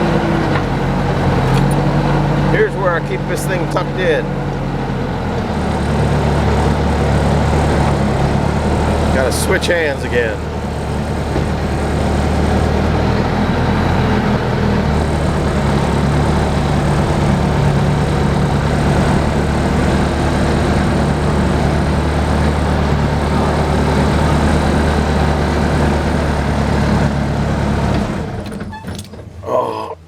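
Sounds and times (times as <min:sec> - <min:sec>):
loader engine droning: 0:00.0 - 0:30.0.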